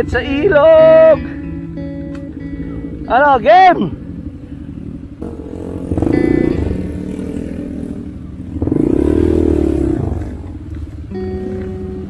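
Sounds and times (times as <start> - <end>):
dirt bike engines running: 0.0 - 12.0
dirt bike throttle revs: 0.9 - 12.0.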